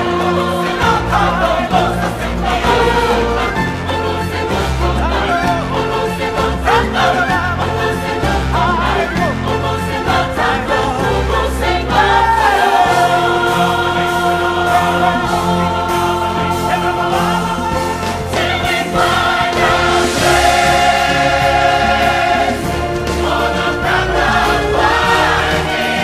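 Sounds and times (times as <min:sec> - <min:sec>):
choir singing long notes: 0:00.0 - 0:26.0.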